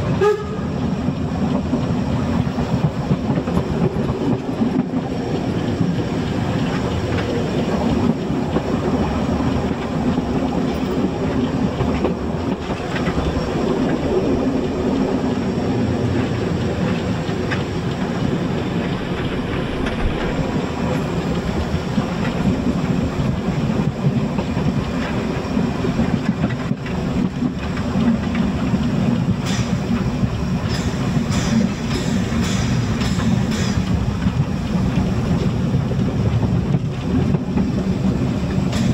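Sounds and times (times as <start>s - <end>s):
wheels rumbling on rails: 0.0s - 38.9s.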